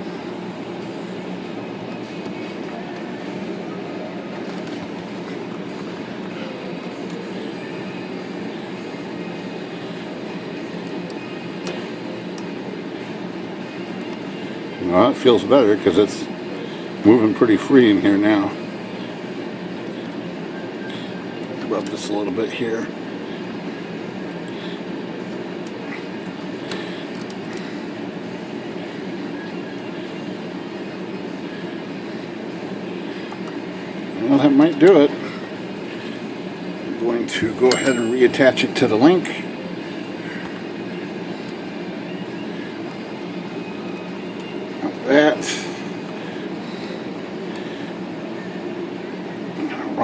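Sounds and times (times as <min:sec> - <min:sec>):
low rushing background noise: 0:00.0 - 0:50.0
low whooshing fan noise: 0:00.0 - 0:50.0.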